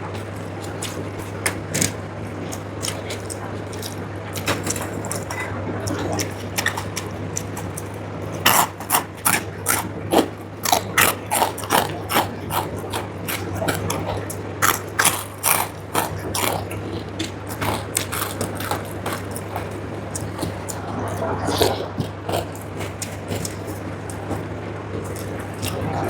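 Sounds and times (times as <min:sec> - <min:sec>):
crunching and chewing crisp food: 0:00.0 - 0:26.0.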